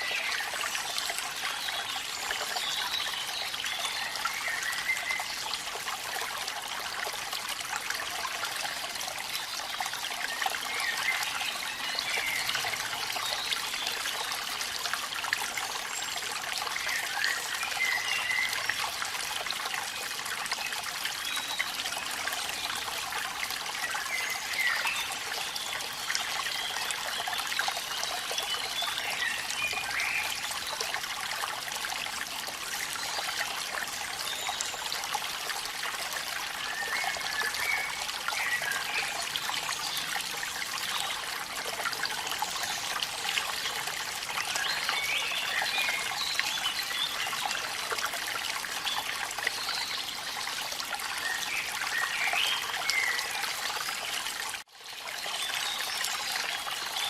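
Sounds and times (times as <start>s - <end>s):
waterfall trickling and splashing: 0.0s - 57.0s.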